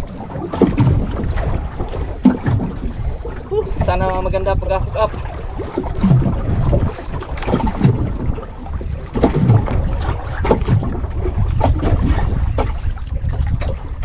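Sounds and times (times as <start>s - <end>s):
water sloshing against boat hull: 0.0s - 14.0s
wind buffeting microphone: 0.0s - 14.0s.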